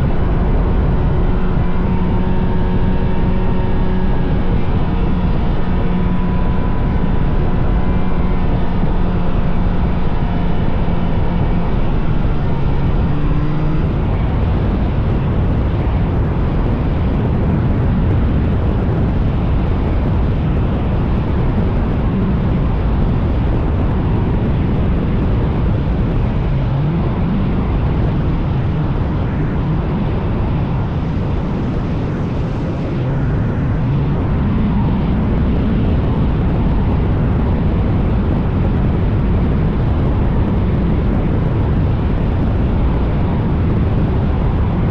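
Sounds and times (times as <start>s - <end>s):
rush of wind: 0.0s - 44.9s
snowmobile engine running: 0.0s - 44.9s.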